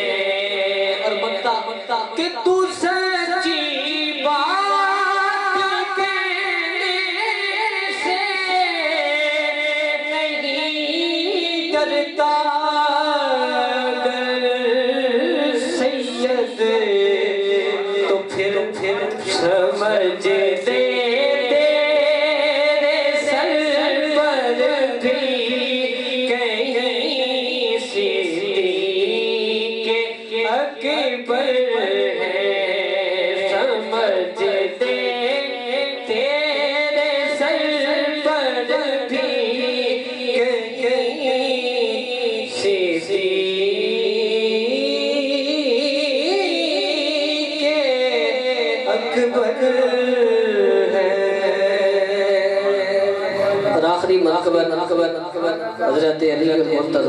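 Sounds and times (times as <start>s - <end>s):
man singing into a microphone: 0.0s - 57.0s.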